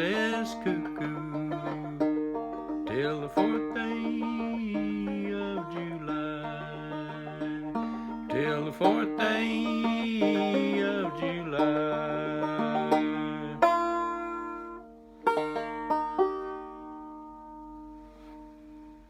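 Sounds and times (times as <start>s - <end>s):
banjo playing: 0.0s - 19.0s.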